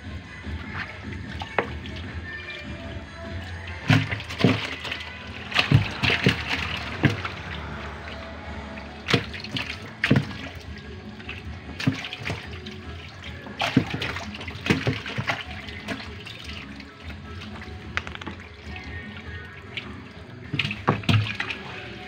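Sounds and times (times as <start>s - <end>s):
fish splashing in bucket: 0.6s - 22.0s
moving water wash: 0.6s - 22.0s.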